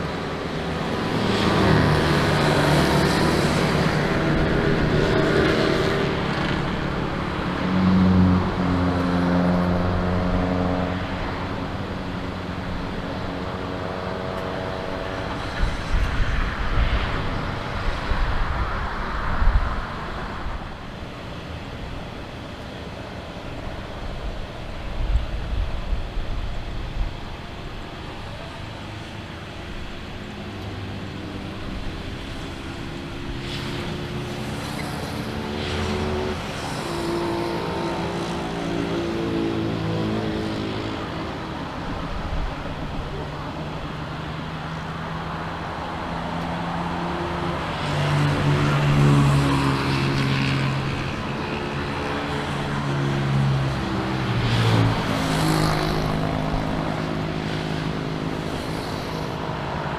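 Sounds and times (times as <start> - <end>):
engines passing by: 0.0 - 59.9.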